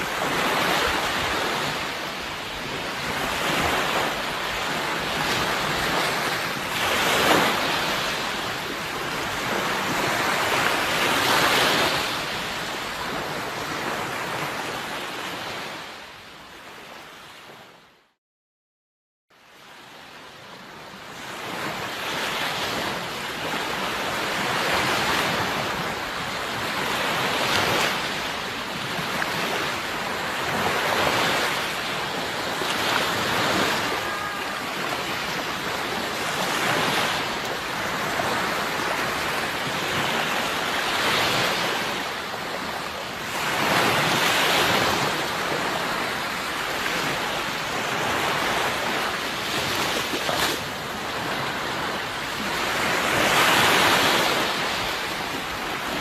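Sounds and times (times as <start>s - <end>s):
sea waves breaking: 0.0s - 17.8s, 19.5s - 56.0s.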